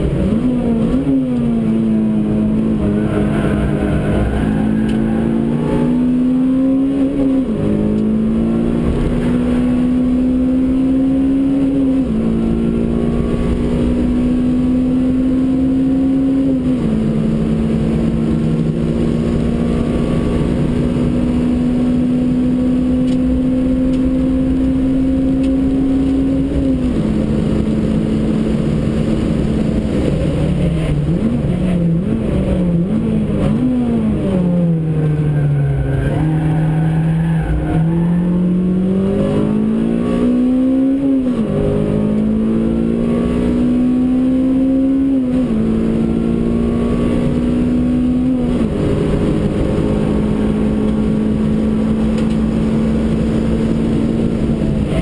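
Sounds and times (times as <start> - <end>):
car engine accelerating and shifting: 0.0 - 55.0.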